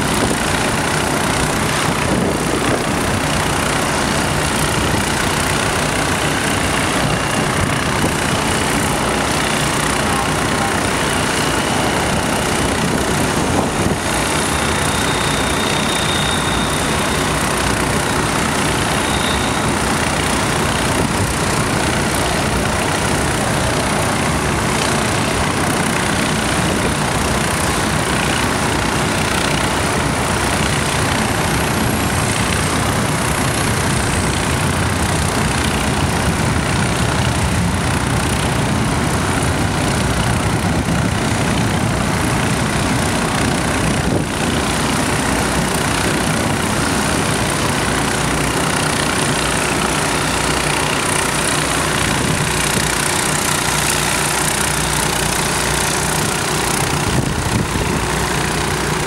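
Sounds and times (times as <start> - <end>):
engine-driven pumps droning: 0.0 - 59.0
water pouring from pipes: 0.0 - 59.0.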